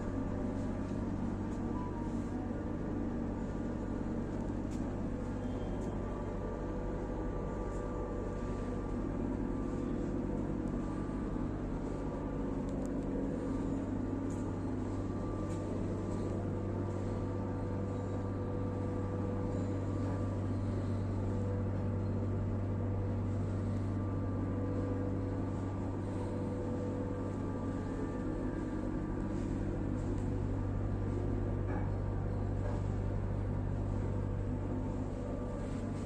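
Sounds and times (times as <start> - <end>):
rolling mill machine humming: 0.0 - 36.0.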